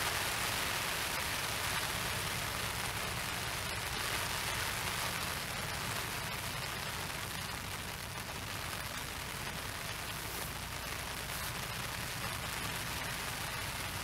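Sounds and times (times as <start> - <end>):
rain pattering on an umbrella: 0.0 - 14.0.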